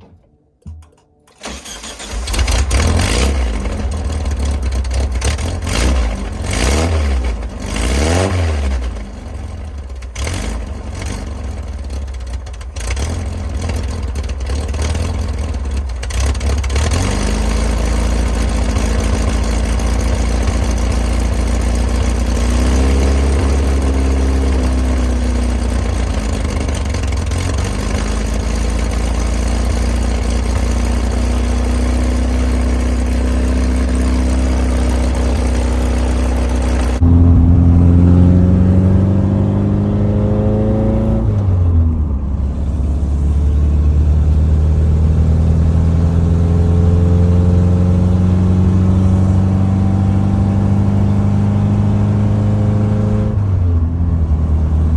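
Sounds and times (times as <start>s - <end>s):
car engine starting and revving: 0.8s - 54.9s.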